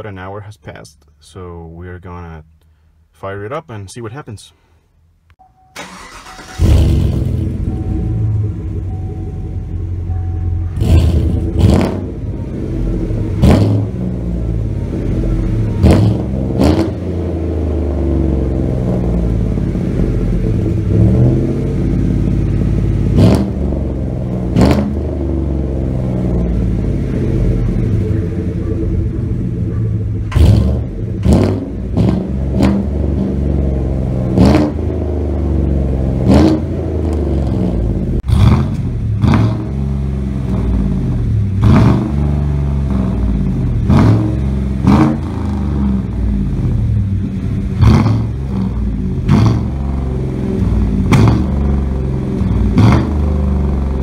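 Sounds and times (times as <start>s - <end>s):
car engine idling and revving: 5.2s - 54.0s.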